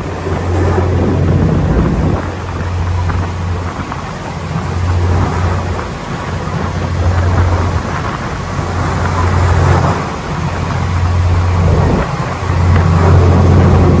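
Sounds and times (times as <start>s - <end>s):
ferry engine drone: 0.0s - 14.0s
water rushing: 0.0s - 14.0s
wind buffeting microphone: 0.0s - 14.0s.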